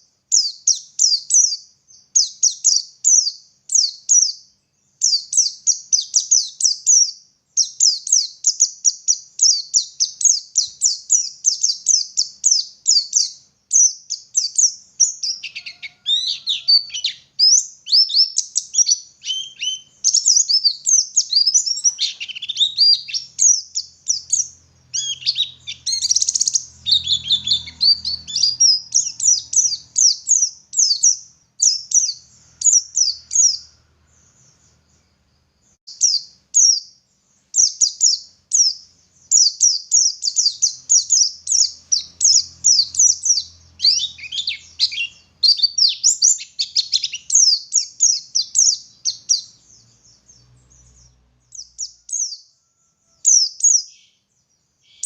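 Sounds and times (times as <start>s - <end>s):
bird singing high chirping runs: 0.0s - 55.0s.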